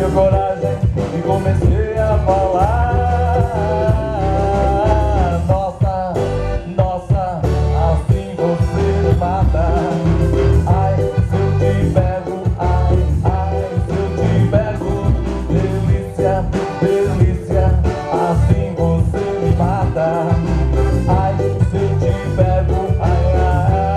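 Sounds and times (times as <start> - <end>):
song with vocals and beat: 0.0 - 23.9.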